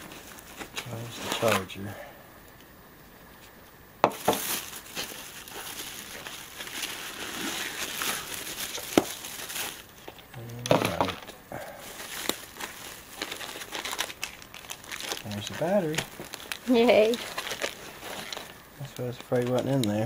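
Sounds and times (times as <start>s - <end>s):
plastic bags crinkling: 0.0s - 1.7s, 4.0s - 20.0s.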